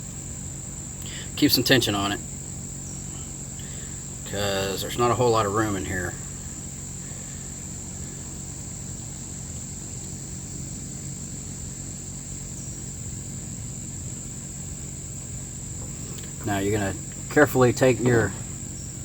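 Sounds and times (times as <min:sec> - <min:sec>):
crickets trilling: 0:00.0 - 0:19.0
low steady hum: 0:00.0 - 0:19.0.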